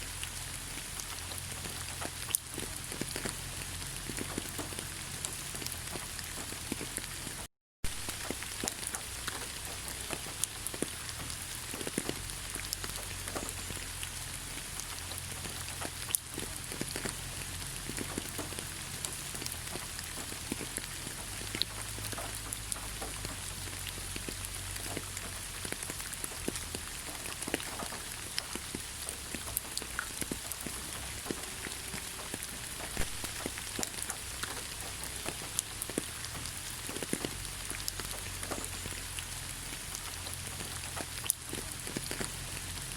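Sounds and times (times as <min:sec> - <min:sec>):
raindrops ticking: 0:00.0 - 0:42.9
steady rain hiss: 0:00.0 - 0:42.9.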